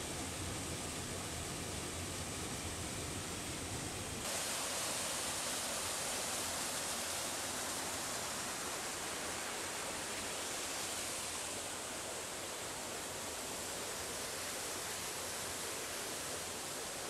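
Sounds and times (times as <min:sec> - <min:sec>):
waterfall rushing over rock: 0:00.0 - 0:17.0.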